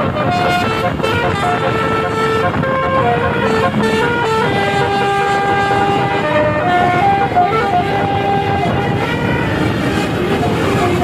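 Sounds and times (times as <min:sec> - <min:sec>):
bus horn playing a tune: 0:00.0 - 0:11.0
vehicle noise: 0:00.0 - 0:11.0.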